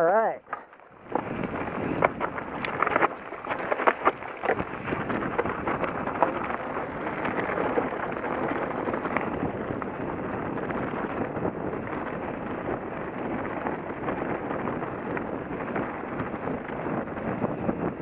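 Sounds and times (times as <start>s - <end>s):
bike rattling and knocking: 0.0s - 18.0s
wind noise on microphone: 0.0s - 18.0s
bike tyres crunching on dirt: 0.4s - 18.0s.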